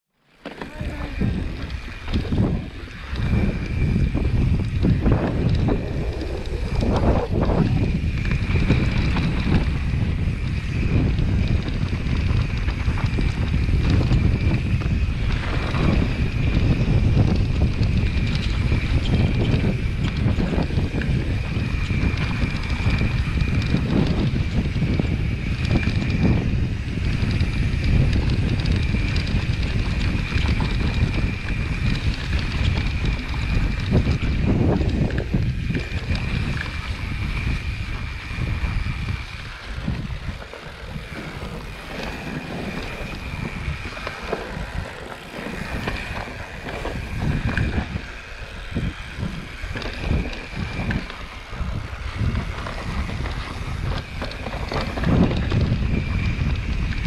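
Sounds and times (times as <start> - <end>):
steady high whine: 0.2 - 57.0
bike knocks and rattles: 0.3 - 57.0
tyres rumbling on dirt: 0.3 - 57.0
wind noise on microphone: 0.4 - 57.0.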